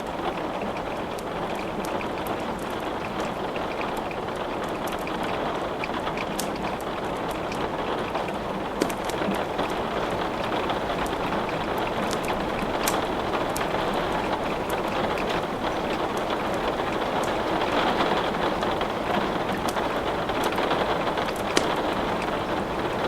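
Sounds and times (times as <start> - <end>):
rain hiss: 0.0 - 23.0
wood crackling in a fireplace: 0.0 - 23.0.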